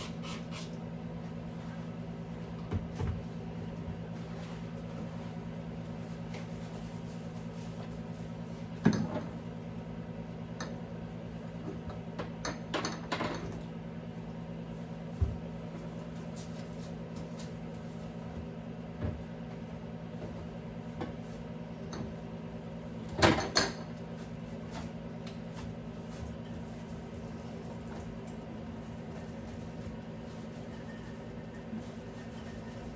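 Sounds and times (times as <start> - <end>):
refrigerator hum: 0.0 - 32.9.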